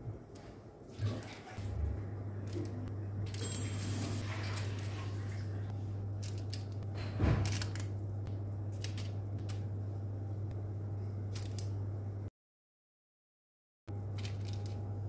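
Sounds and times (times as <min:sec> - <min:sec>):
steady low hum: 0:00.0 - 0:12.3, 0:13.9 - 0:15.0.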